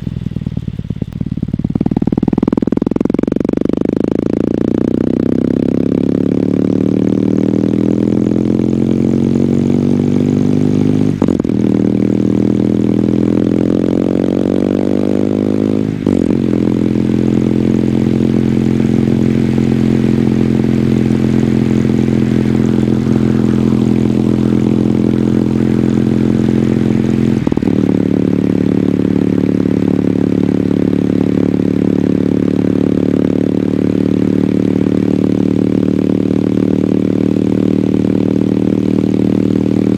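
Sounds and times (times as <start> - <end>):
gear changes: 0.0 - 39.9
motorcycle engine accelerating: 0.0 - 39.9.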